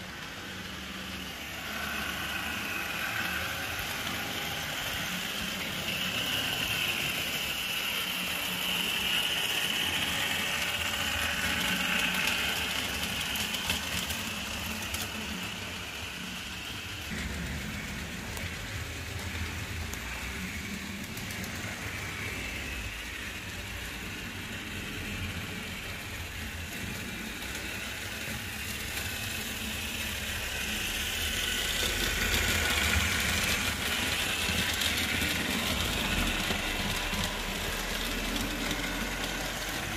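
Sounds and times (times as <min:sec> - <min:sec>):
model train motor whine: 0:00.0 - 0:39.9.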